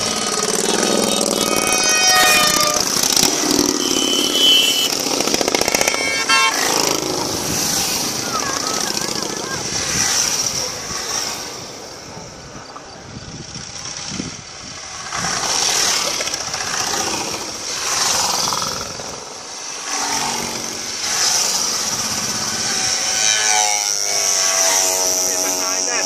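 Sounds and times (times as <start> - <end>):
motorcycles riding past: 0.0 - 26.0.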